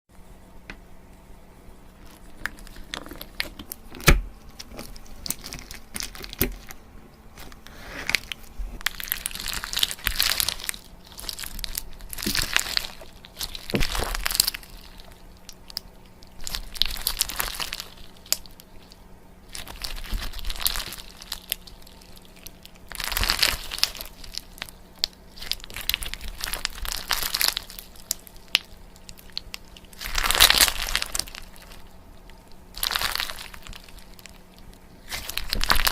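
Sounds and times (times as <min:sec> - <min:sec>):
faint steady hum: 0:00.1 - 0:35.9
material crinkling and crunching: 0:01.9 - 0:35.9.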